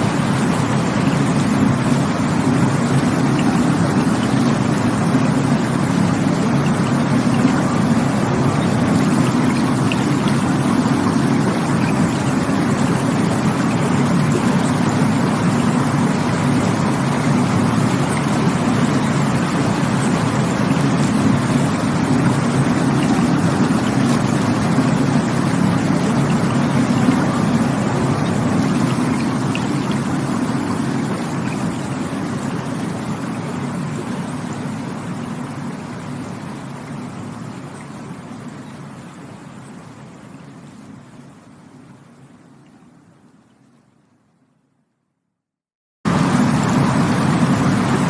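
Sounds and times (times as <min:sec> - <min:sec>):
rushing water: 0:00.0 - 0:44.5, 0:46.1 - 0:48.0.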